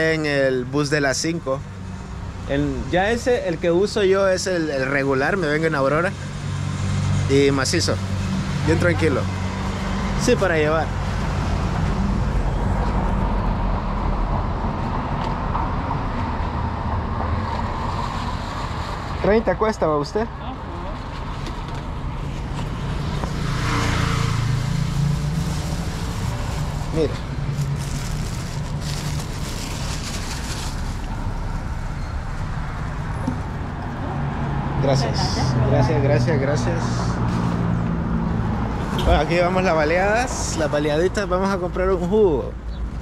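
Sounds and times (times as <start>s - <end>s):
street noise: 0.0s - 43.0s.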